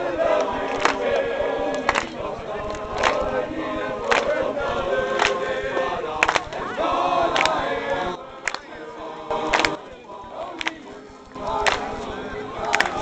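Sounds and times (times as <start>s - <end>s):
men singing in chorus: 0.0s - 13.0s.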